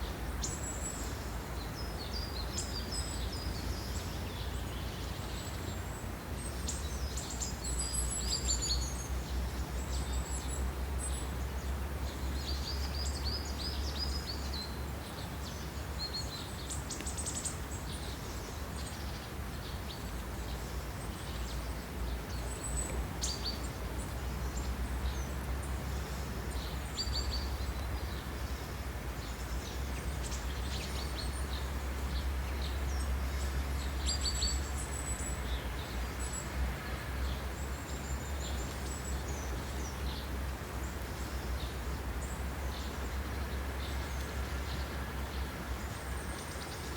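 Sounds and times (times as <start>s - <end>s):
background hiss: 0.0s - 46.9s
small birds chirping: 0.0s - 46.9s.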